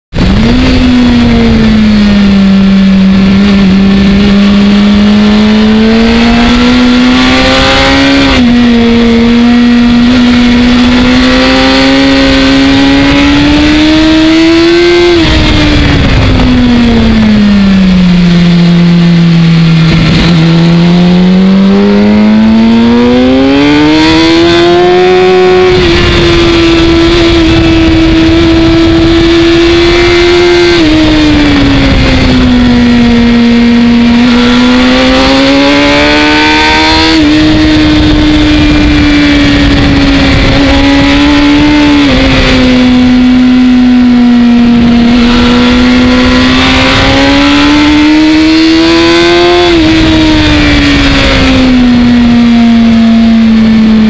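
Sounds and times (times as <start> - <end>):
motorcycle engine revving: 0.0 - 54.0
wind rushing past microphone: 0.1 - 54.0.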